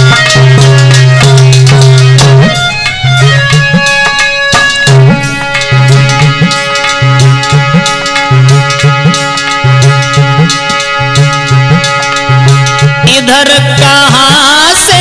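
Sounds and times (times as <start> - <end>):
hand drum rhythm: 0.0 - 15.0
harmonium melody: 0.0 - 15.0.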